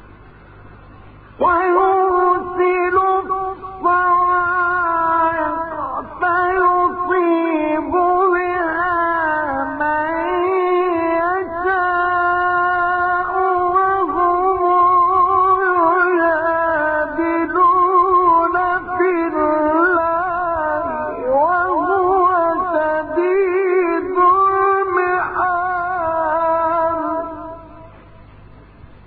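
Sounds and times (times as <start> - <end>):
man reciting melismatic chant: 1.4 - 27.9.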